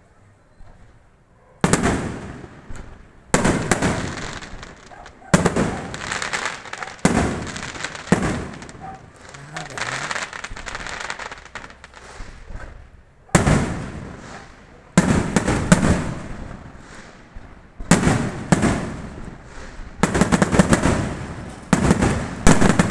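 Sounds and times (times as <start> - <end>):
fireworks exploding: 0.6 - 22.9.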